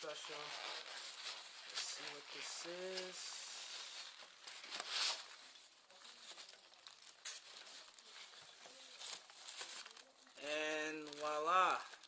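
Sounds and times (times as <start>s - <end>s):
packing material rustling and crinkling: 0.0s - 12.0s.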